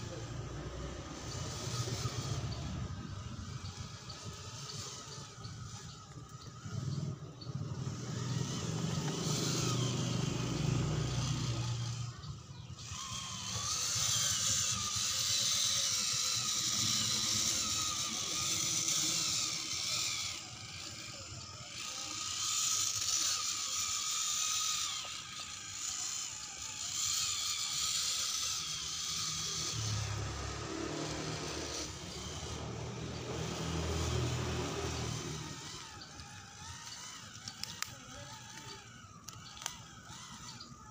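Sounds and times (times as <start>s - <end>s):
small electric motor whining: 0.0s - 40.9s.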